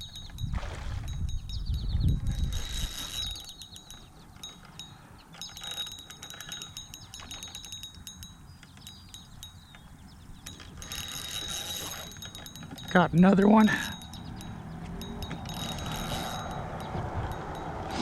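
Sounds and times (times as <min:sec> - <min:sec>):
fishing reel gears ticking: 0:01.1 - 0:17.8.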